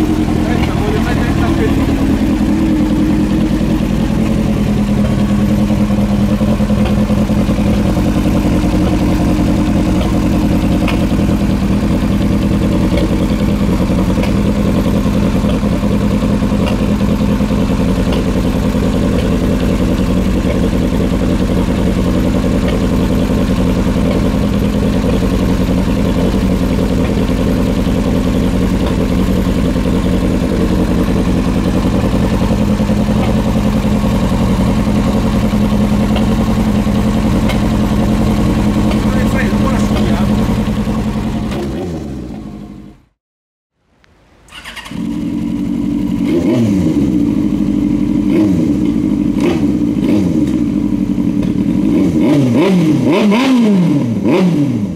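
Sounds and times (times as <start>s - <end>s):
motorcycle engine idling: 0.0s - 43.2s, 44.4s - 53.5s.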